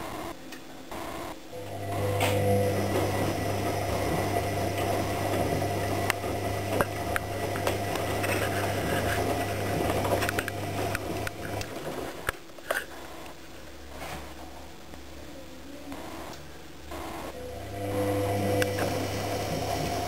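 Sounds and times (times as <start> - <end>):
washing machine motor hum: 0.0 - 12.4, 16.1 - 20.0.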